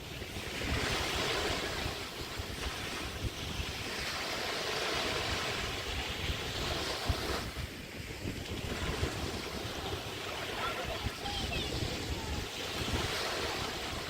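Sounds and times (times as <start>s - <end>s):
small waves washing on a beach: 0.0s - 14.0s
wind rumbling on microphone: 0.0s - 14.0s.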